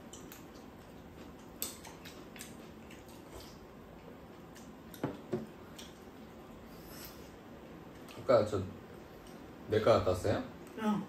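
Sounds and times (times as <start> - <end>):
soft chewing: 0.0 - 8.3, 8.9 - 9.6.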